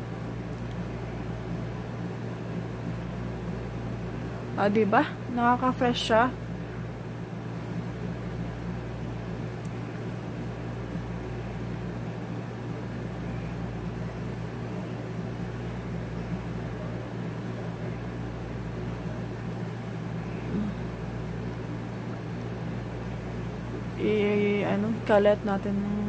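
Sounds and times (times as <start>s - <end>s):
air conditioner humming and hissing: 0.0s - 26.0s.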